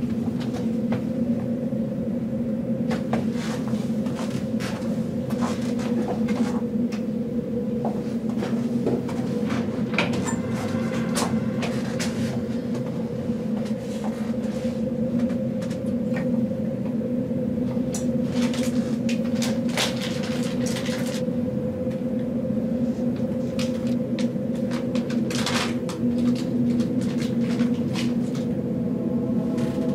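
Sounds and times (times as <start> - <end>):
steady low drone: 0.0 - 29.9.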